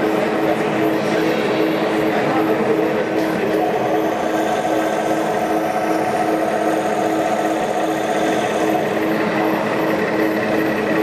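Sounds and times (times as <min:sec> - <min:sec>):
model railcar motor humming: 0:00.0 - 0:11.0.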